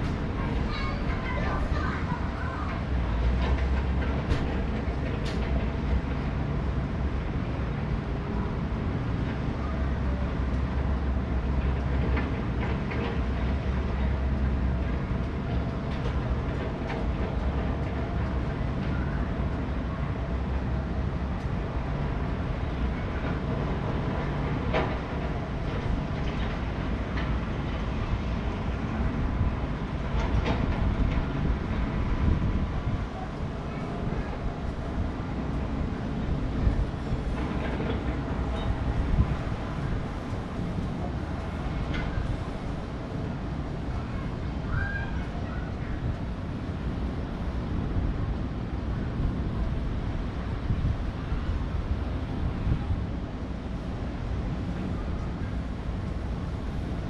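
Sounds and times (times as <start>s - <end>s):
vehicle rumbling in motion: 0.0s - 57.0s.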